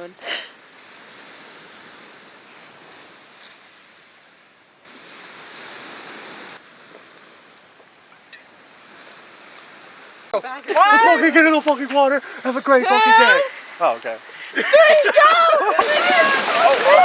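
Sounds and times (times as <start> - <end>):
rushing sea water: 0.0 - 17.0
wind: 0.0 - 17.0.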